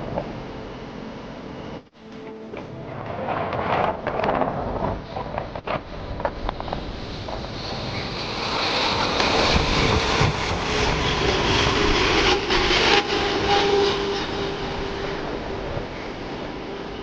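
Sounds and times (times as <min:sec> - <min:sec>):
faint engine whine: 0:00.0 - 0:17.0
jet airliner passing: 0:00.0 - 0:17.0.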